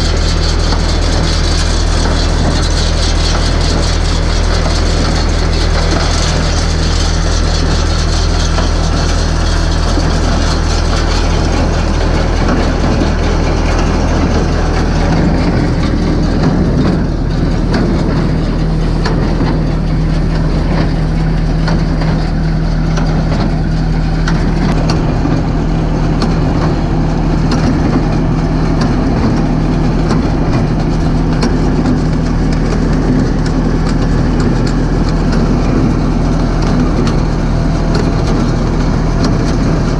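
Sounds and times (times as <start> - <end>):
tractor engine running: 0.0 - 39.9
baler baling hay: 0.1 - 38.8.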